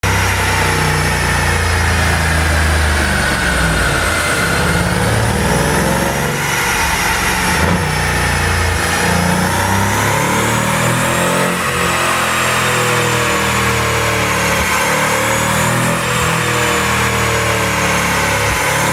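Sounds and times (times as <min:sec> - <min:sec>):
car engine through exhaust: 0:00.0 - 0:18.9.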